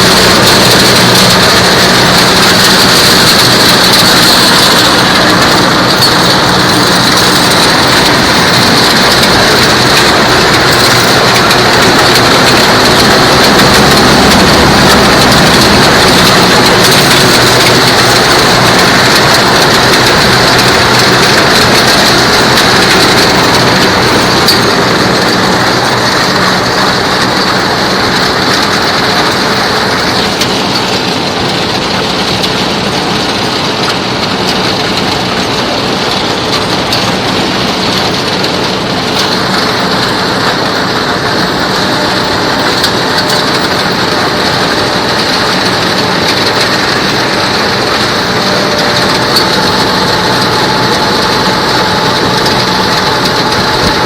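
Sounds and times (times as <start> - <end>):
harvester machinery noise: 0.0 - 54.0
tractor engine running: 0.0 - 54.0.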